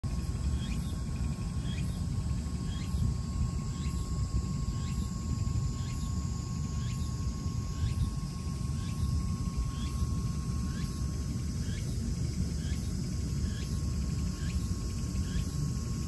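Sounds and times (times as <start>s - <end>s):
faint insect chirps: 0.0s - 16.0s
thin steady hum: 0.0s - 16.0s.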